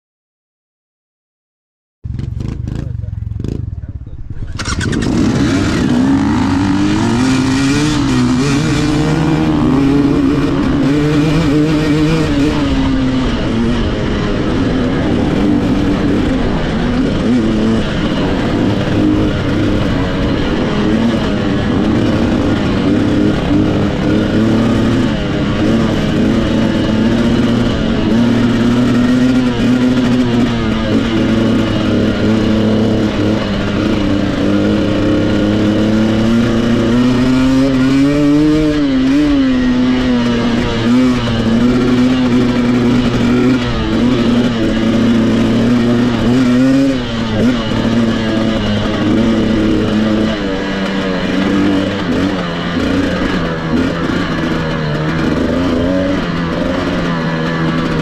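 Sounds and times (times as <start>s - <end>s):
dirt bike engine running: 2.0s - 58.0s.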